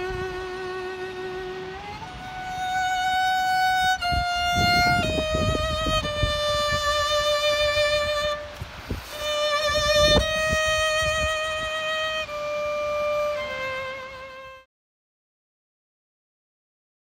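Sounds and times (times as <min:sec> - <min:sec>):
solo violin melody: 0:00.0 - 0:14.7.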